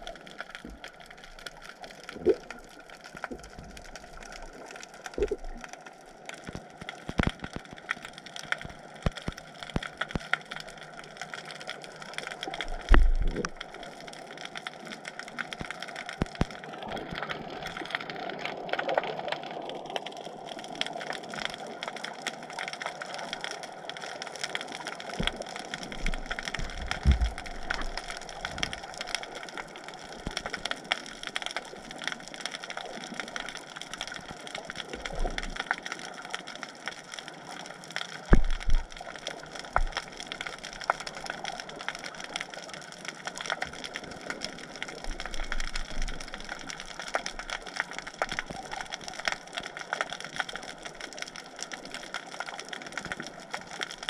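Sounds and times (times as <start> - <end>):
underwater crackling clicks: 0.0 - 54.0.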